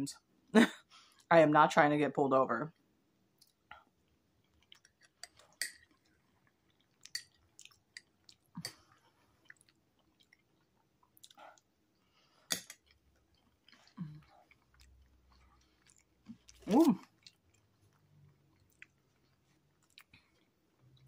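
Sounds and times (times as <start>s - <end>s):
chewing with wet smacks: 3.4s - 21.0s.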